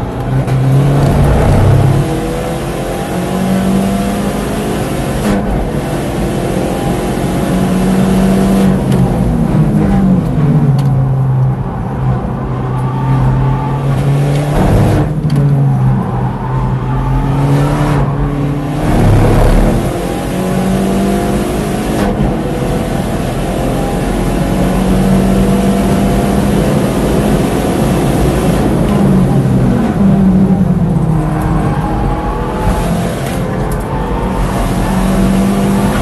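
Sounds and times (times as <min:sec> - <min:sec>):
car engine accelerating through gears: 0:00.0 - 0:12.2, 0:12.8 - 0:36.0.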